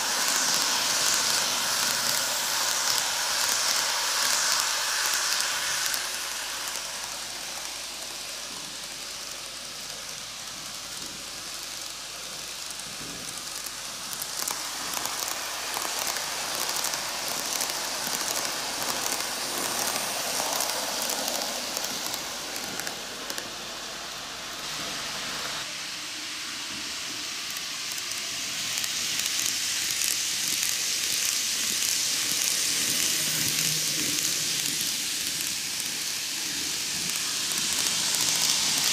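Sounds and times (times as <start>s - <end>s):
model train motor hum: 0.0s - 38.9s
model train wheels hissing on rail: 0.0s - 38.9s.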